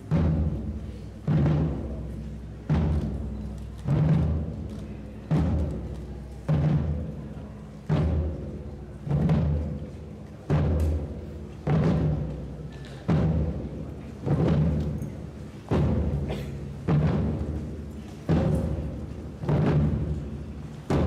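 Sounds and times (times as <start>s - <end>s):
deep drum beat: 0.0s - 21.0s.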